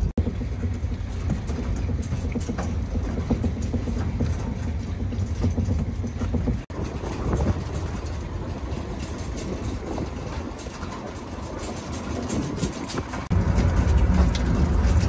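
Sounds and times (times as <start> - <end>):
metal trailer knocking and rattling: 0.0 - 15.0
road rumble: 0.0 - 15.0
wind buffeting microphone: 0.0 - 15.0.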